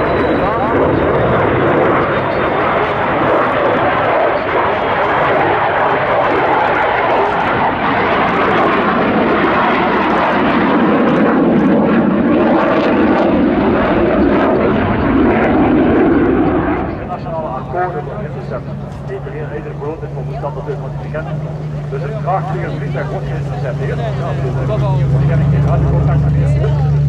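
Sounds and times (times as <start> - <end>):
loud jet fighter noise: 0.0 - 27.0.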